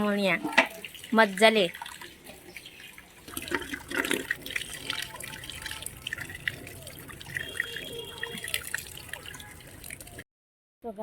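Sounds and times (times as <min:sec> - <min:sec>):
water running in a sink: 0:00.0 - 0:10.2
water drips: 0:00.2 - 0:10.2.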